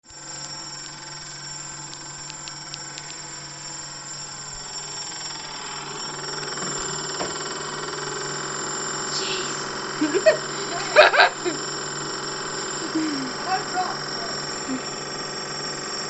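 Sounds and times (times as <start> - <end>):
high-pitched whine: 0.0 - 16.0
mechanical hum: 0.0 - 16.0.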